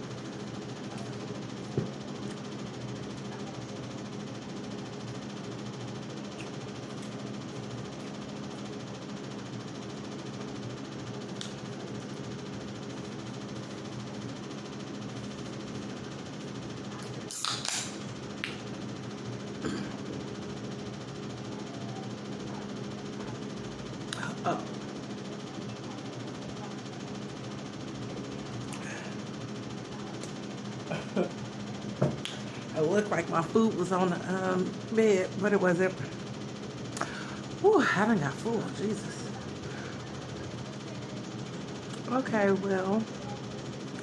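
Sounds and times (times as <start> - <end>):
low room hum: 0.0 - 44.0.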